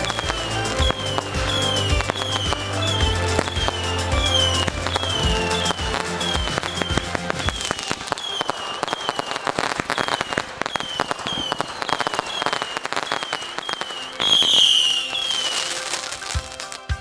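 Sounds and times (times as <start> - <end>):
fireworks popping: 0.0 - 17.0
high falling firework whistle: 0.0 - 17.0.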